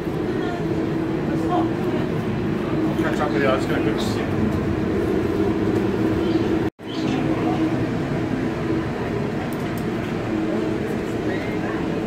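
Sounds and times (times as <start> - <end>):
low rumble: 0.0 - 11.2
steady hum: 0.0 - 12.0.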